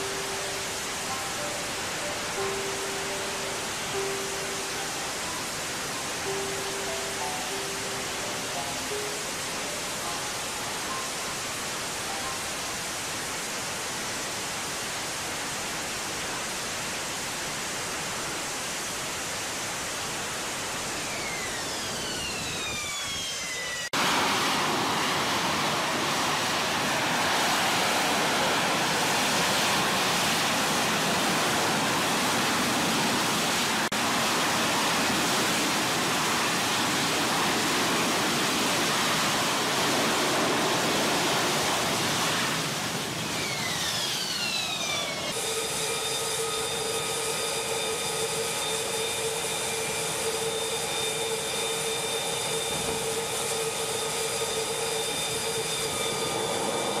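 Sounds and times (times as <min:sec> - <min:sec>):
jet engine high whine: 0:00.0 - 0:57.0
jet engine noise: 0:00.0 - 0:57.0
turbine whine gliding down: 0:00.0 - 0:57.0.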